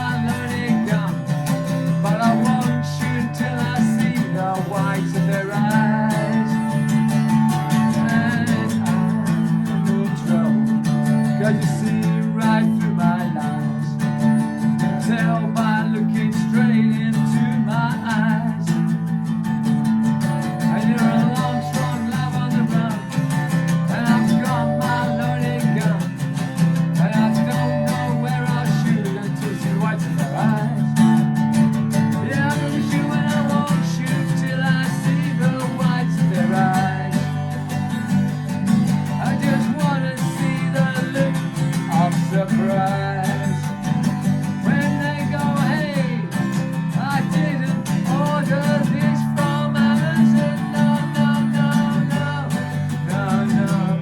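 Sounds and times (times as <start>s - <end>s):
instrumental guitar music: 0.0s - 54.0s.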